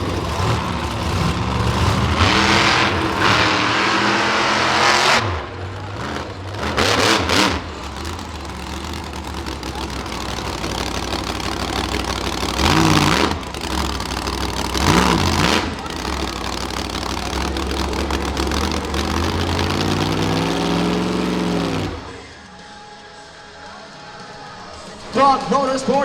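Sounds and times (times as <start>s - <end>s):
monster truck engines revving: 0.0s - 22.8s.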